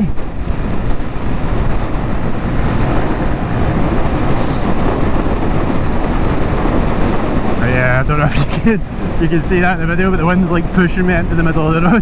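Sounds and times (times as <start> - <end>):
motorcycle road noise: 0.0 - 12.0
wind rush: 0.0 - 12.0.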